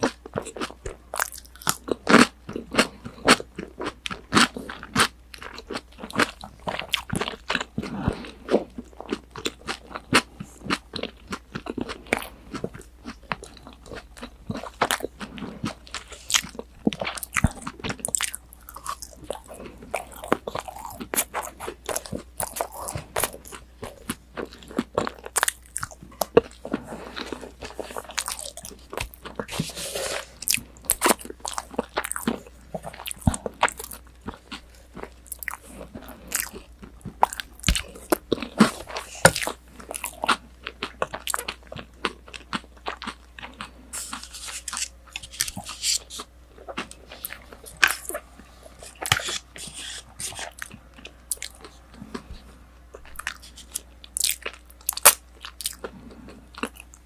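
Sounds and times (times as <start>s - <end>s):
chewing crunchy fried food: 0.0s - 57.0s.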